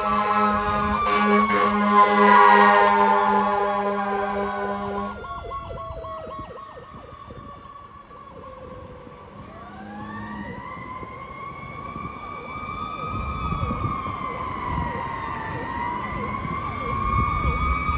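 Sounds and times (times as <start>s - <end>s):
fire engine siren: 0.0s - 17.9s
traffic rumble: 0.0s - 17.9s.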